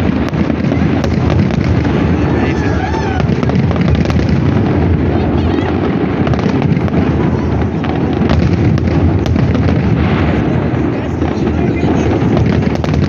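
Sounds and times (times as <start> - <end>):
fireworks cracks and pops: 0.0 - 13.0
fireworks rumble: 0.0 - 13.0.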